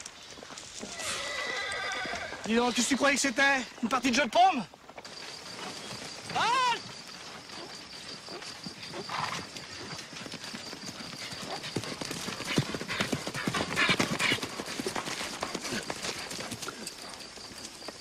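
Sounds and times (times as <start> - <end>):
horse hoofbeats: 0.0 - 18.0.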